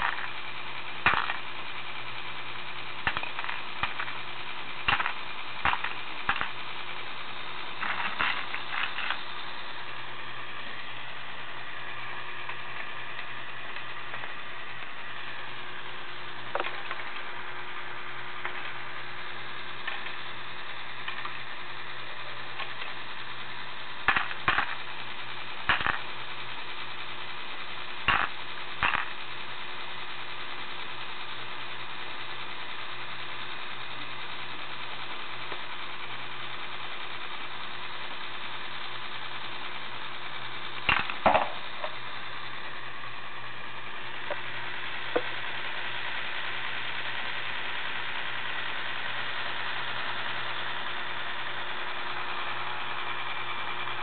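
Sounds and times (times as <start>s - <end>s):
toy motor and gears whirring: 0.0s - 54.0s.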